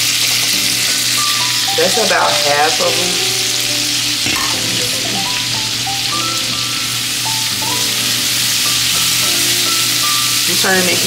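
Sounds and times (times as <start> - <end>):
food sizzling in oil: 0.0 - 11.0
soft background music: 0.0 - 11.0.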